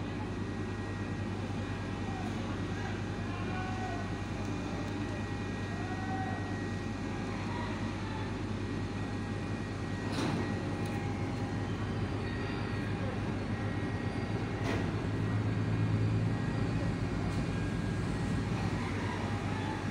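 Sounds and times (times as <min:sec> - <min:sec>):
ship engine droning: 0:00.0 - 0:19.9.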